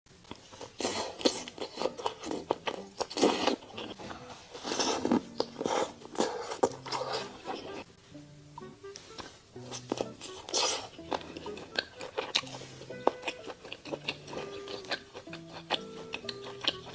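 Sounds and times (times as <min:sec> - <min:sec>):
crunching while eating steak: 0:00.2 - 0:07.8, 0:09.1 - 0:16.9.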